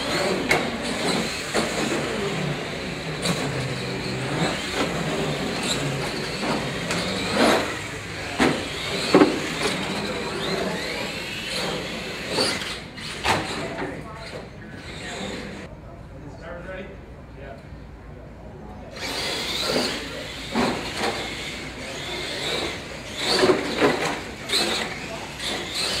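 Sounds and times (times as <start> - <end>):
electric motors whining: 0.0 - 15.7, 18.9 - 26.0
toy trucks knocking and clattering: 0.1 - 13.9, 19.0 - 26.0.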